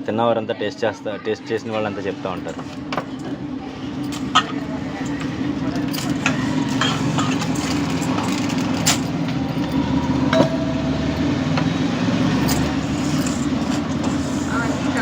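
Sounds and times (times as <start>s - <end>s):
low engine-like hum: 2.4s - 15.0s.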